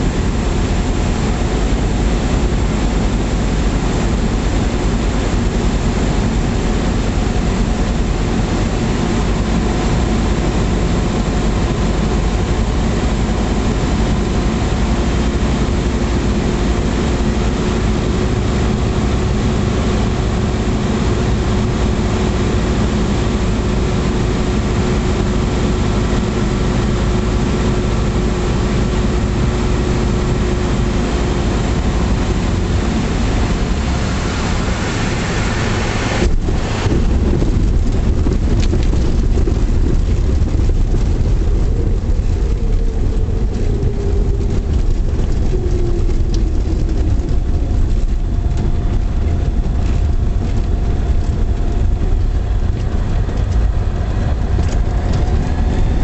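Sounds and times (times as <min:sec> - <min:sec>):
aircraft engine and propeller droning: 0:00.0 - 0:56.0
airflow noise: 0:00.0 - 0:56.0.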